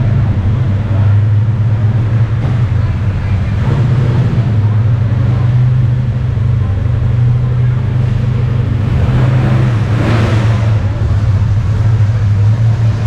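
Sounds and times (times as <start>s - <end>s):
car engines rumbling: 0.0s - 13.0s
car pulling away: 0.0s - 13.0s.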